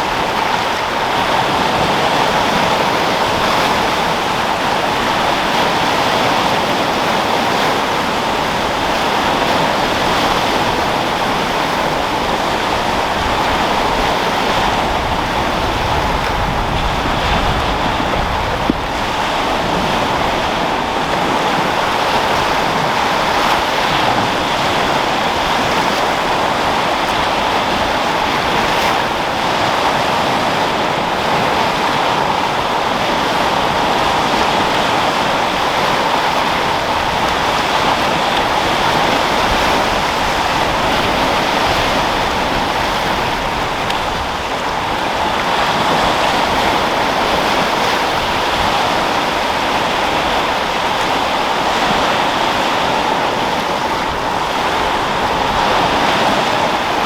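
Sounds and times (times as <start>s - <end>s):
waves breaking: 0.0s - 57.0s
wind blowing: 0.0s - 57.0s.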